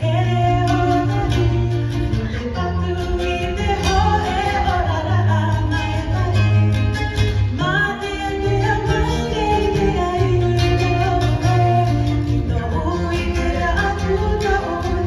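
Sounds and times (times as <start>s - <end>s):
strummed guitar and ukulele: 0.0s - 15.0s.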